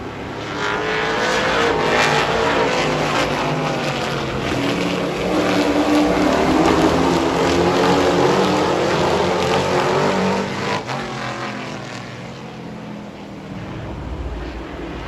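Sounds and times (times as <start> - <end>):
race truck engines: 0.0 - 15.0.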